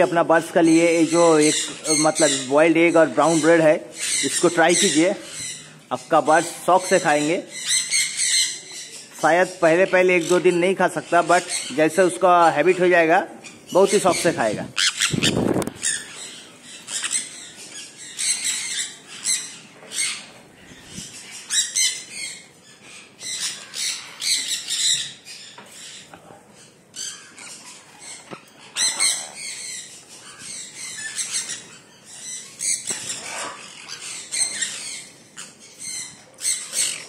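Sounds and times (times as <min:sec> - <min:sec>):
parrots squawking and chirping: 0:00.0 - 0:37.0.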